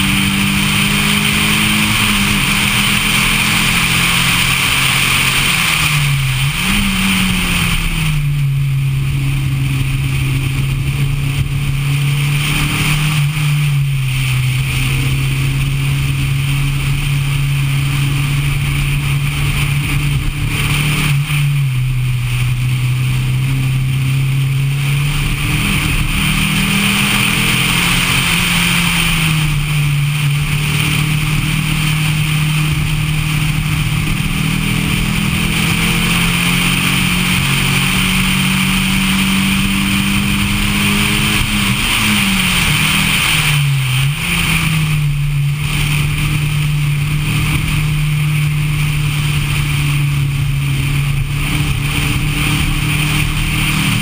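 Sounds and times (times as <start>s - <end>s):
car engine at speed: 0.0s - 54.0s
wind and road noise: 0.0s - 54.0s.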